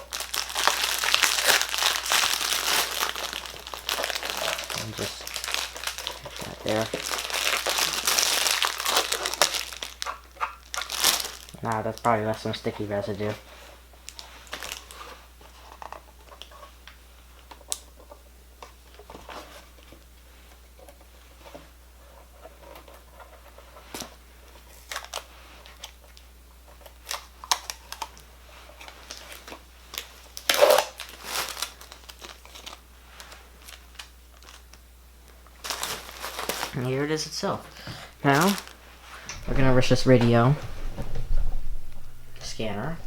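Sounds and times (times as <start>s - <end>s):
plastic packaging crinkling: 0.0s - 20.1s, 22.5s - 43.0s.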